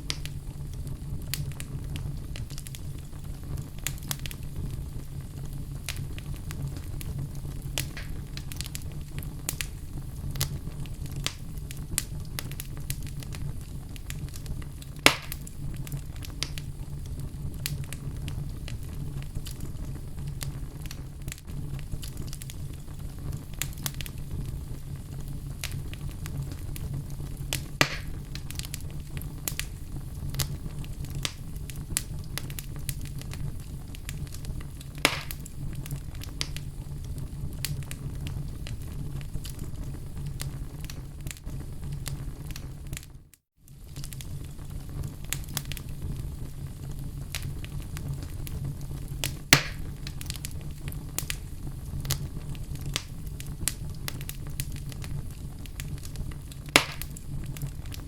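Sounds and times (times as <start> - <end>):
fire pops: 0.0 - 58.0
fireplace fire crackling: 0.0 - 58.0.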